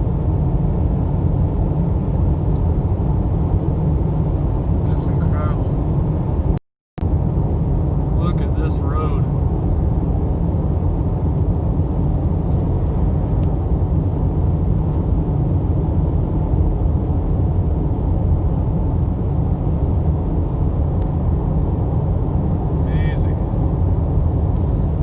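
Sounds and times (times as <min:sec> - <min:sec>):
car driving on road: 0:00.0 - 0:25.0.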